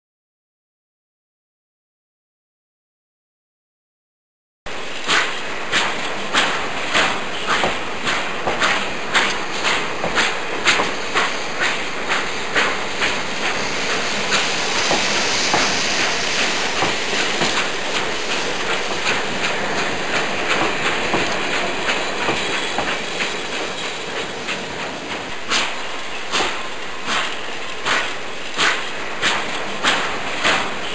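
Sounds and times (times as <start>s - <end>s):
steady hiss: 4.7s - 30.9s
train wheels clicking over rail joints: 4.7s - 30.9s.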